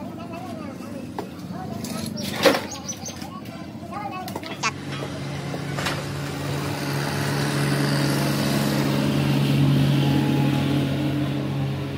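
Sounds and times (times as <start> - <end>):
engine humming steadily: 0.0 - 11.9.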